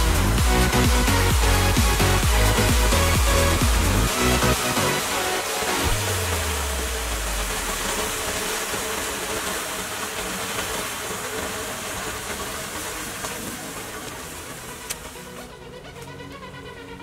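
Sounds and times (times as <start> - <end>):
sparklers fizzing hiss: 0.0 - 15.6.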